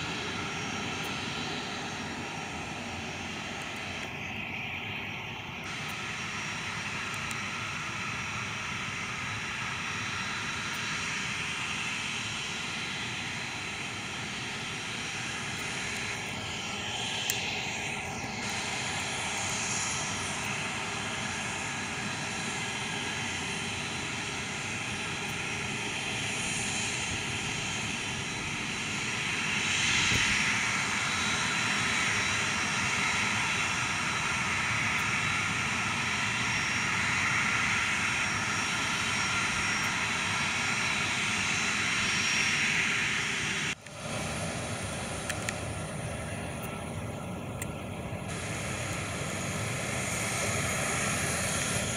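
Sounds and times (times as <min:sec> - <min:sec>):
jet engines taxiing: 0:00.0 - 0:51.9.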